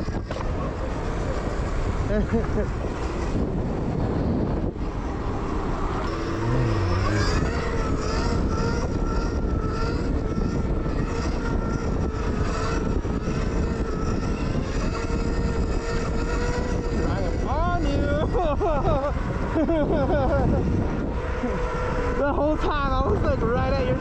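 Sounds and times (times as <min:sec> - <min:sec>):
electric motorcycle motor whine: 0:00.0 - 0:24.0
wind rush and tyre noise: 0:00.0 - 0:24.0.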